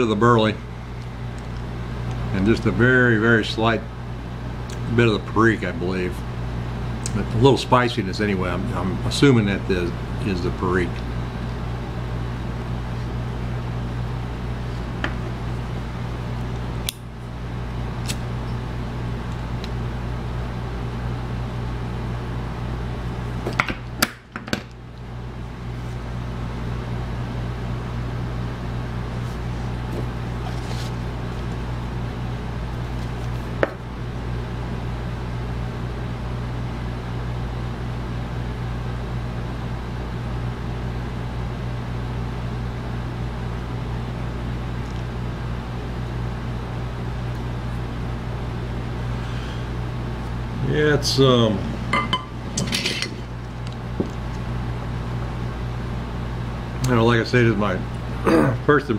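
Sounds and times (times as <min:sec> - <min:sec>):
steady low hum with hiss: 0:00.0 - 0:58.9.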